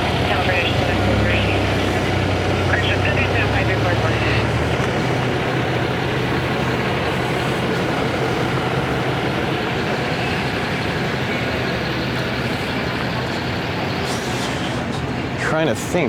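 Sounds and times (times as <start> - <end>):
vehicle running: 0.0 - 16.0.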